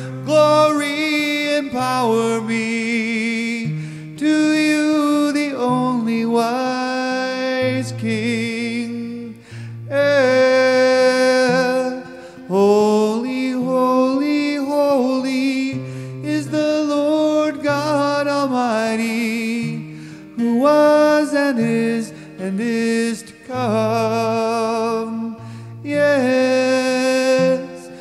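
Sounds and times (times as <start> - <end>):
man singing worship song: 0.0 - 28.0
strummed acoustic guitar: 0.0 - 28.0.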